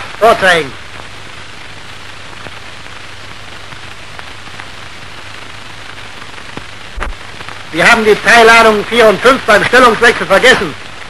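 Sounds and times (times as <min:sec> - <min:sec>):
old film soundtrack hiss and crackle: 0:00.0 - 0:11.0.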